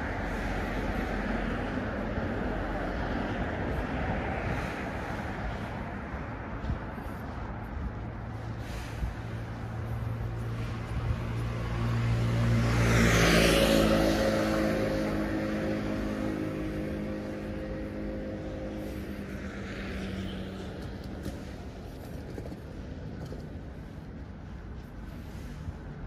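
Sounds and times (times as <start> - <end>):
vehicle passing by: 0.0 - 22.1.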